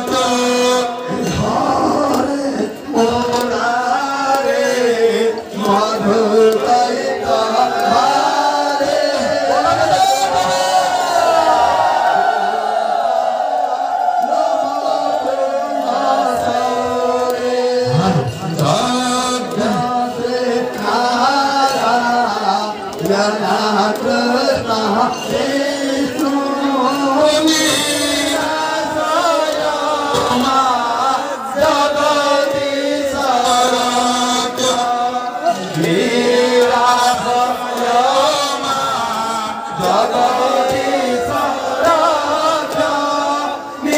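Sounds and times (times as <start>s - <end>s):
voices singing melodic chant: 0.0s - 13.2s, 14.0s - 43.9s.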